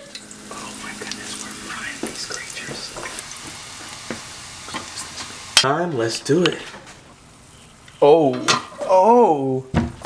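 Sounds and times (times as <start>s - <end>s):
deep-frying sizzle with pops: 0.0s - 9.2s.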